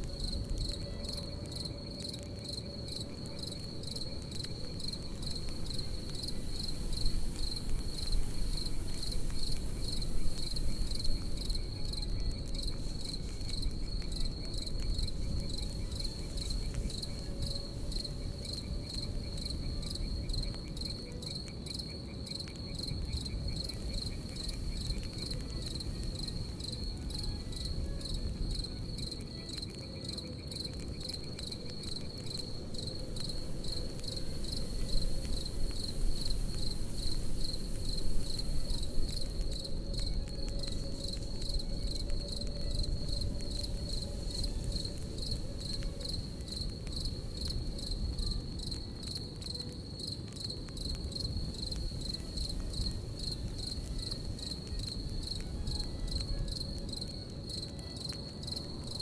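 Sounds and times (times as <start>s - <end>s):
campfire crackling: 0.0s - 59.0s
crickets chirping: 0.0s - 59.0s.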